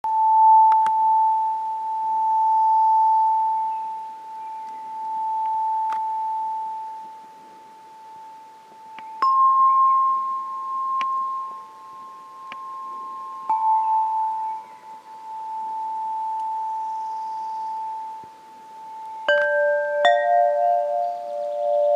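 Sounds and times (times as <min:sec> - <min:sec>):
tube chimes ringing: 0:00.1 - 0:21.9.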